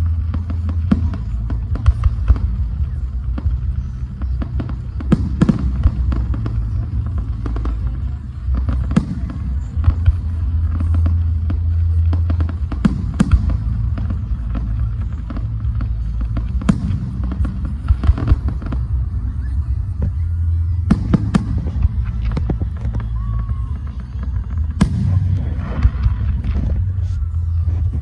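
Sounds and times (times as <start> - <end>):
fireworks bangs and crackles: 0.0 - 28.0
low rumble: 0.0 - 28.0.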